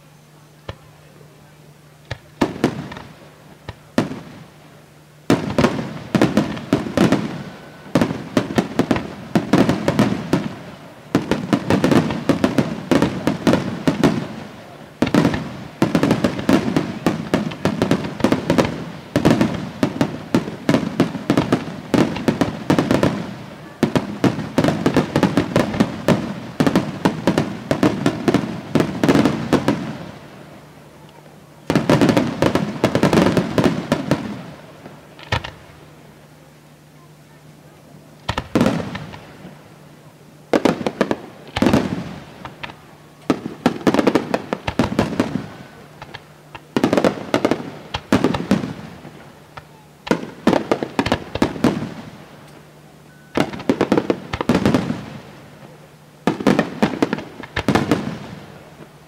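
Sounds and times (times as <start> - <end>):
fireworks bangs and crackling: 0.6 - 59.0.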